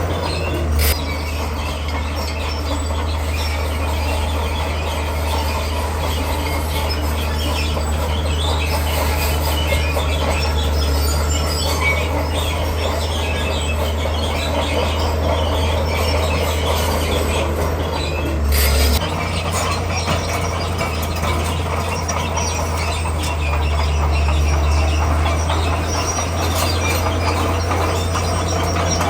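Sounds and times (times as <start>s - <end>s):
low diesel drone: 0.0s - 29.0s
steel tracks clanking and squealing: 0.0s - 29.0s.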